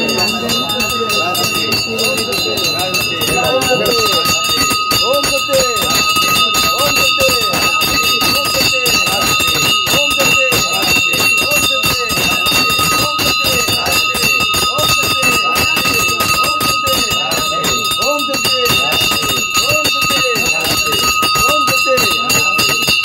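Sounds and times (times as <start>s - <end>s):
bells ringing: 0.0s - 23.0s
rapid percussive strikes: 0.0s - 23.0s.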